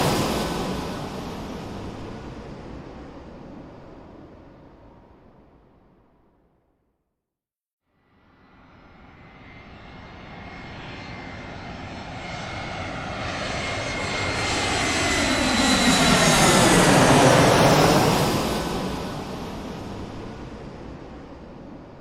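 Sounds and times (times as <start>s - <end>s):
airplane engine flying over: 0.0s - 5.2s, 8.6s - 22.0s.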